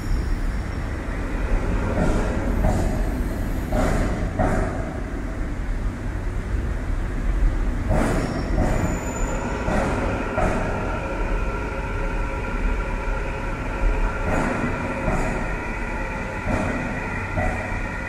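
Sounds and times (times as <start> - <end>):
multi-tone train whine: 0.0 - 18.0
subway train rumbling: 0.0 - 18.0.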